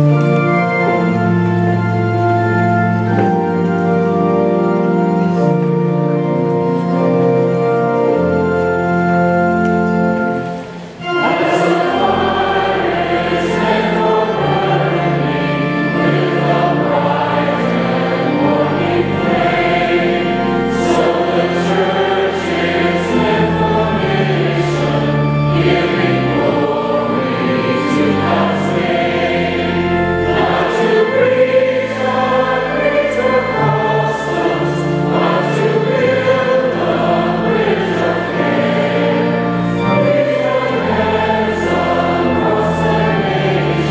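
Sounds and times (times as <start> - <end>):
congregation singing a hymn: 0.0 - 43.9
organ tones: 0.0 - 43.9.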